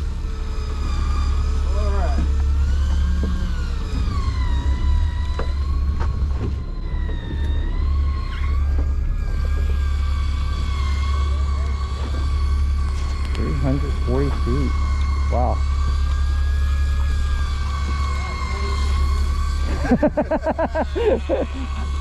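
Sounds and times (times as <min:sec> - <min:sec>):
fishing reel motor whining: 0:00.0 - 0:22.0
low steady drone: 0:00.0 - 0:22.0.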